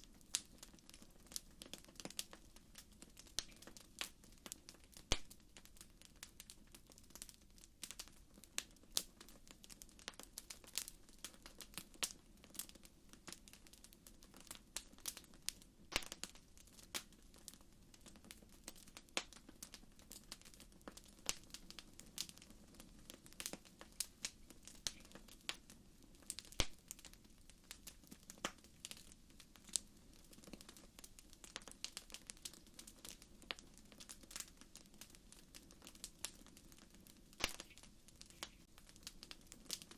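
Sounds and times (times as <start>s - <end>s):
bonfire crackling: 0.0s - 39.9s
burning wood popping: 0.0s - 39.9s.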